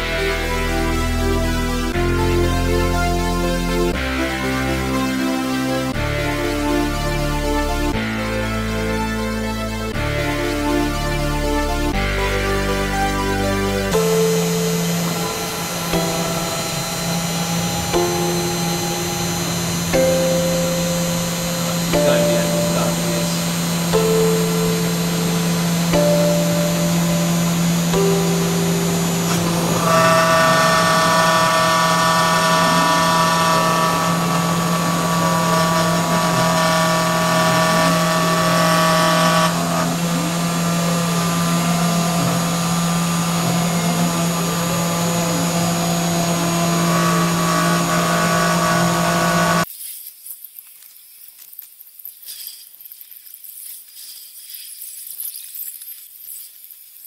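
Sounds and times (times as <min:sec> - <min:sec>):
spindle droning: 0:00.0 - 0:49.6
stepper motors whining: 0:00.0 - 0:49.7.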